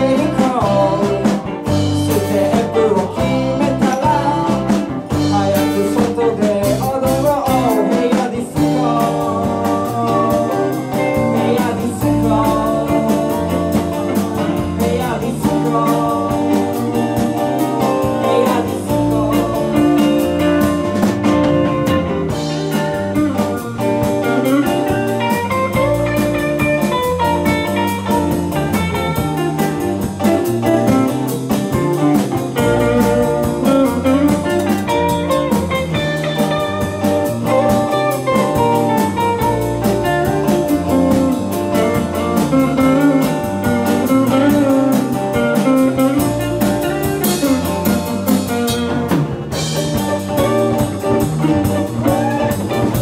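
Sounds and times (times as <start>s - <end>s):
electric bass: 0.0s - 53.0s
fast drum beat: 0.0s - 53.0s.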